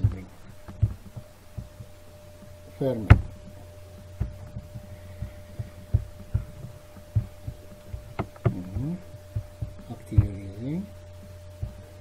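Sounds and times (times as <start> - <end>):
faint steady tone: 0.0 - 12.0
low electrical hum: 0.0 - 12.0
microphone handling thuds: 0.0 - 12.0.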